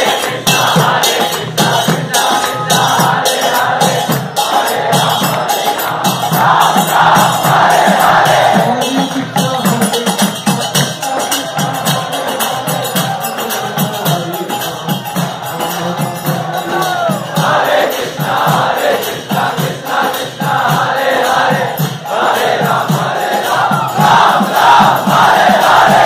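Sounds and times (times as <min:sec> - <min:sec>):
crowd singing a chant: 0:00.0 - 0:26.0
percussion beat: 0:00.0 - 0:26.0.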